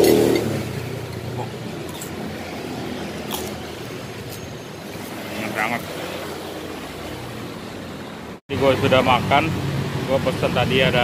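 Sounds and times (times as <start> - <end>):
hum of traffic: 0.0 - 11.0.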